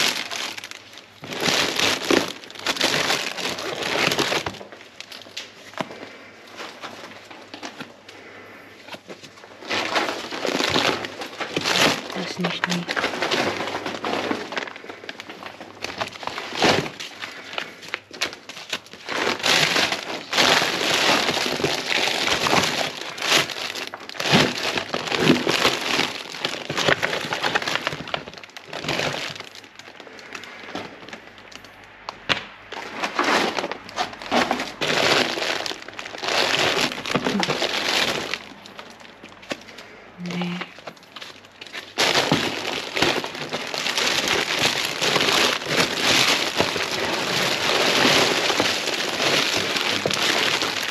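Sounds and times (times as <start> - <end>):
plastic packaging crinkling: 0.0 - 50.9.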